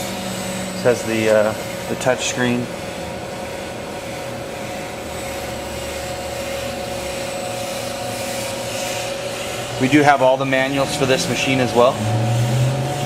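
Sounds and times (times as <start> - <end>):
grinding machine whirring and whining: 0.0 - 13.0
low machine hum: 0.0 - 13.0.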